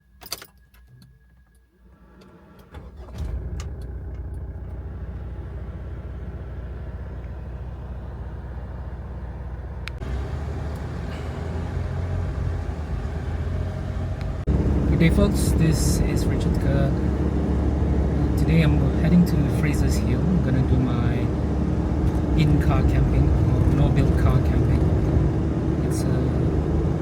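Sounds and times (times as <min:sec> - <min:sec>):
diesel engine cranking and starting: 0:01.8 - 0:27.0
diesel engine idling: 0:02.8 - 0:27.0.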